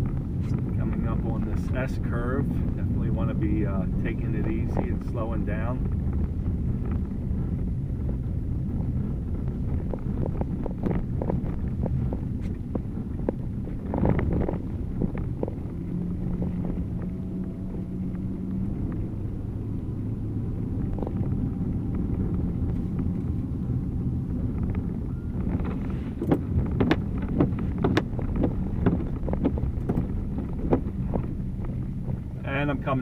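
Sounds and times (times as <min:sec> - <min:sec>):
car engine hum: 0:00.0 - 0:33.0
tyre rumble on road: 0:00.0 - 0:33.0.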